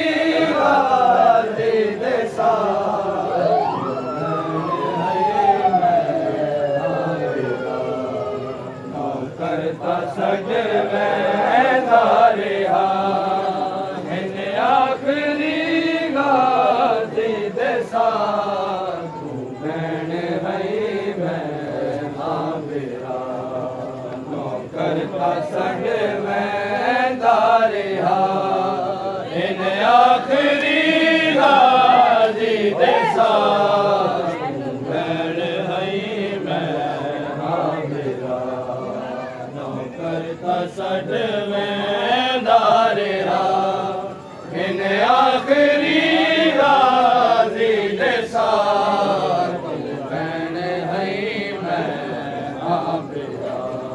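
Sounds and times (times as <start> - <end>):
men chanting together: 0.0 - 5.6, 6.3 - 53.9.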